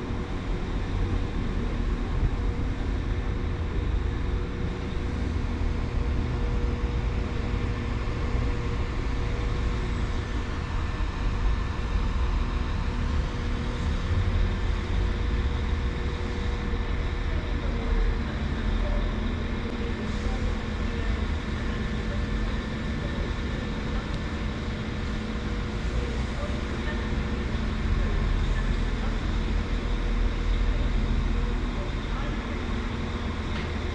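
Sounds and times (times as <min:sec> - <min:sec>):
steady hum: 0:00.0 - 0:33.9
train rumble: 0:00.0 - 0:33.9.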